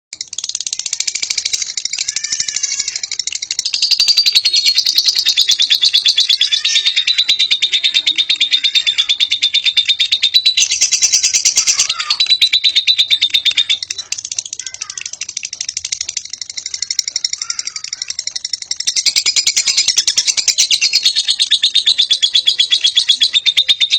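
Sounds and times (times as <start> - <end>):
lovebird chattering: 0.2 - 23.9.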